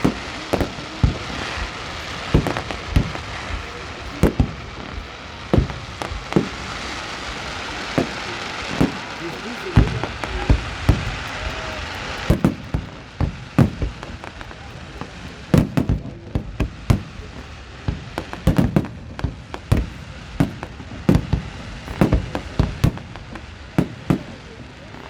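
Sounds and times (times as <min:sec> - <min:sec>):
fireworks booming and cracking: 0:00.0 - 0:25.0
fireworks crackling hiss: 0:00.0 - 0:25.0.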